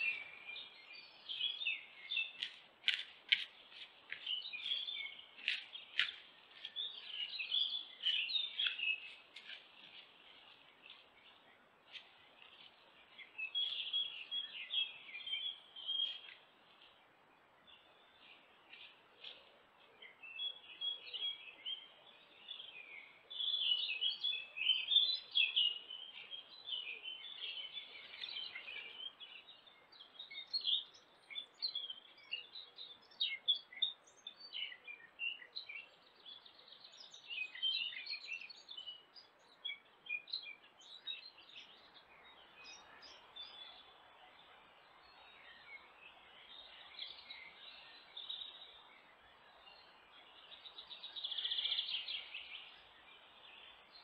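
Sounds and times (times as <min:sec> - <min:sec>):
songbirds singing and chirping: 0:00.0 - 0:54.0.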